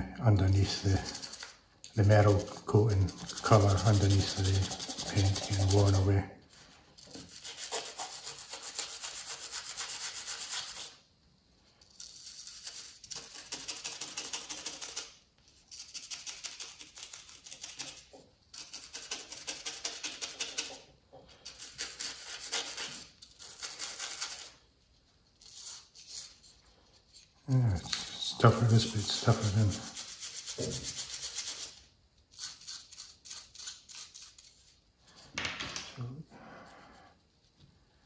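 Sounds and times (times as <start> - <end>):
toothbrush scrubbing: 0.3 - 6.2, 7.0 - 11.0, 11.8 - 24.7, 25.3 - 34.8.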